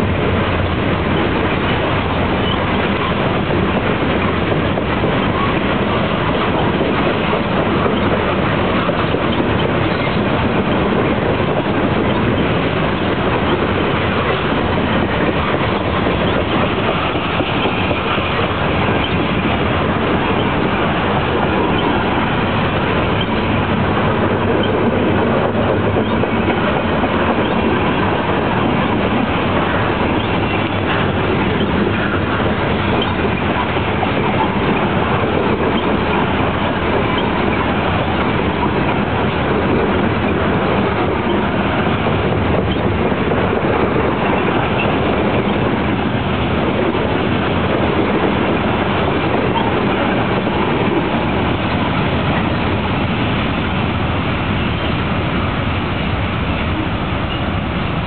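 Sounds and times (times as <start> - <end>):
train cars rolling on rails: 0.0 - 58.0.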